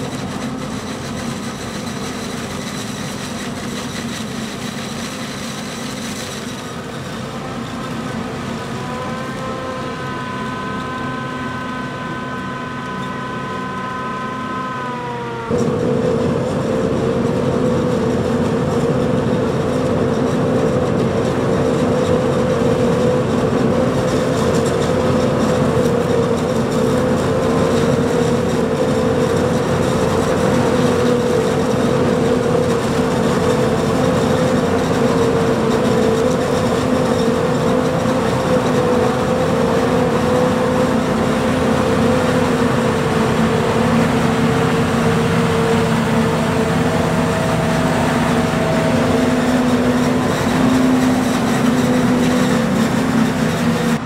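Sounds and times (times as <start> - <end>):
harvester machine drone: 0.0 - 54.0.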